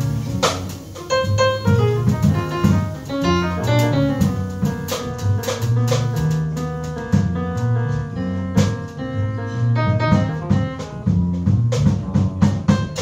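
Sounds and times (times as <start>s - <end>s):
double bass notes: 0.0s - 13.0s
drum kit on cymbals and drums: 0.0s - 13.0s
grand piano chords and runs: 0.0s - 13.0s.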